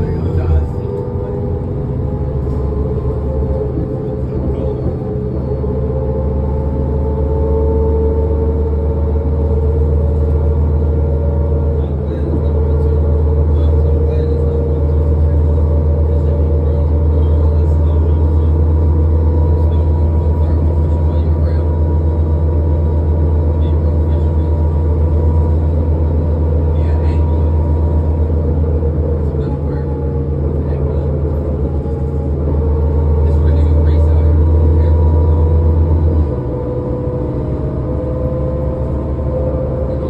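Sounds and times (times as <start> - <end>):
bus engine drone: 0.0 - 40.0.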